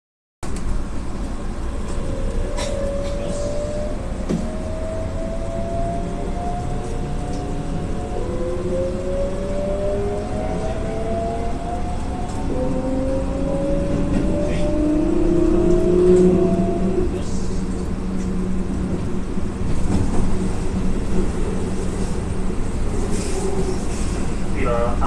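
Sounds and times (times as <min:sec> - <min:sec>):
train wheels rumbling: 0:00.4 - 0:25.0.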